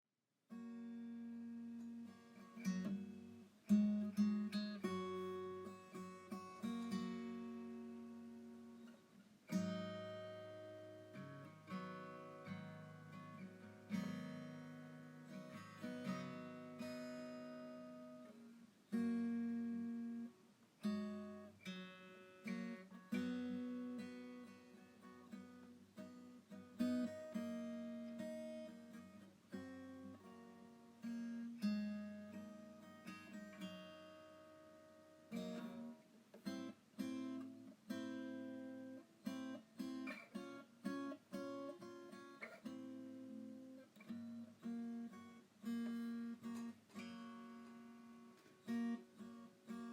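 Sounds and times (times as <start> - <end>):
acoustic guitar chords: 0.5 - 49.9.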